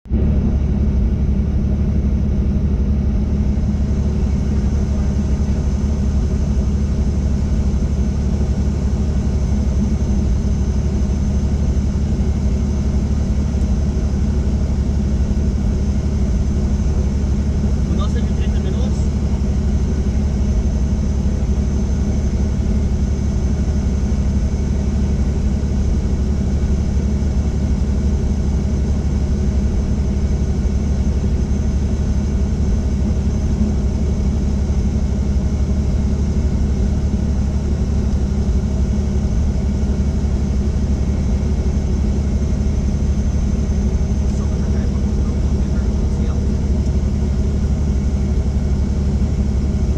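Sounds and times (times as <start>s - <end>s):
helicopter rotor drone: 0.1s - 49.9s.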